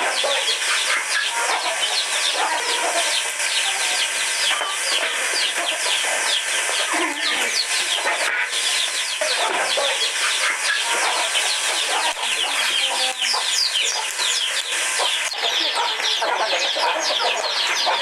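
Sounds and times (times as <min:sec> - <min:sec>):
chickens clucking: 0:00.0 - 0:18.0
high falling peeps: 0:00.0 - 0:18.0.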